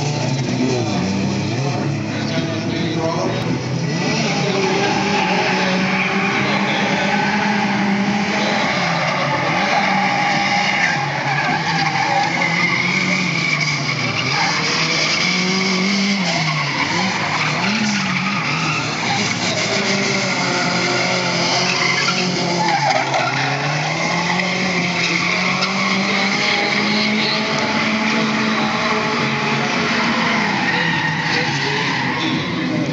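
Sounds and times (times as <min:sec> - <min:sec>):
car engine revving: 0:00.0 - 0:32.9
tyres squealing: 0:03.8 - 0:32.9.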